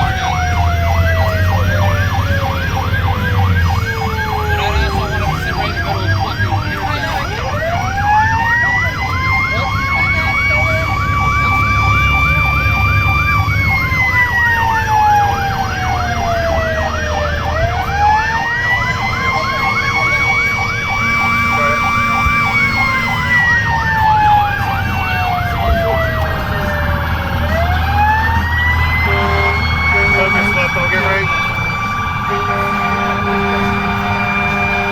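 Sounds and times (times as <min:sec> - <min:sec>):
siren fast yelp: 0:00.0 - 0:34.9
siren wailing: 0:00.0 - 0:34.9
truck engine rumbling: 0:00.0 - 0:34.9.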